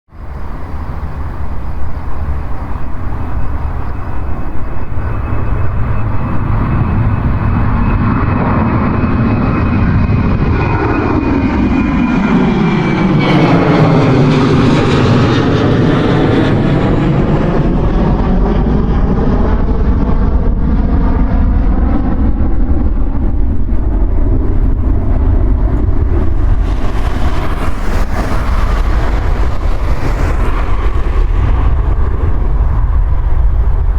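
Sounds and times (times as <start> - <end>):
airliner taking off: 0.1 - 33.9.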